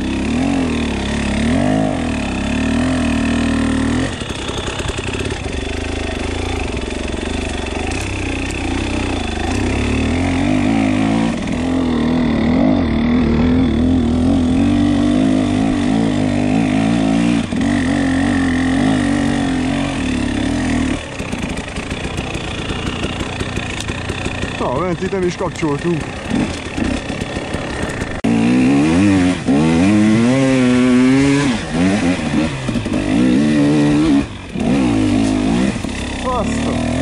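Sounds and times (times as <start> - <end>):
two-stroke motorcycle engine running: 0.0 - 37.0.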